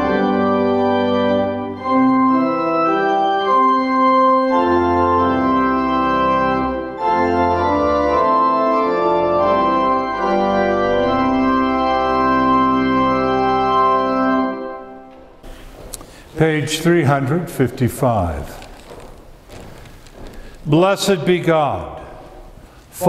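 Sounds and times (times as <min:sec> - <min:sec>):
organ playing hymn chords: 0:00.0 - 0:23.0.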